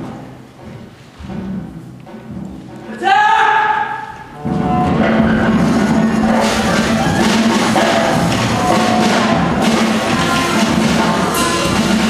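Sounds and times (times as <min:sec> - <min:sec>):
loud music with drums: 0:00.0 - 0:12.0.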